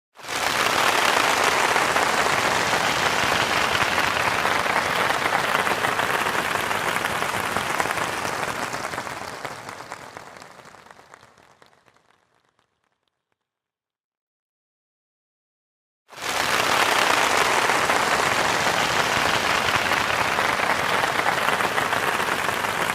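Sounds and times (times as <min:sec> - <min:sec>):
audience applauding: 0:00.2 - 0:12.8, 0:16.2 - 0:22.9.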